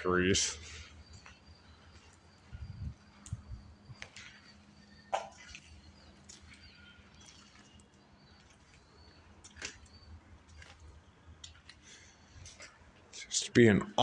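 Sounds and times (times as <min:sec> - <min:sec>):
faint bird chirps: 0:00.0 - 0:12.9
footsteps crunching on debris: 0:01.0 - 0:13.1.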